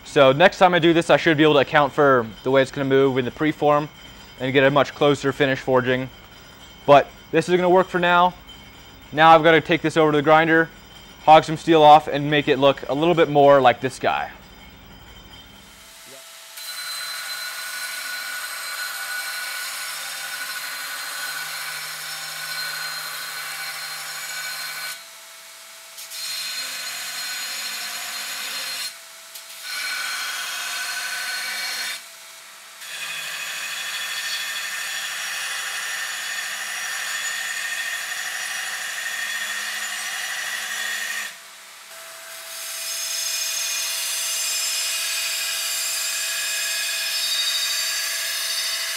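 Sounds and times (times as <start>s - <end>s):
belt grinder grinding steel: 0.0s - 25.0s, 26.0s - 32.0s, 32.8s - 41.5s, 42.2s - 48.9s.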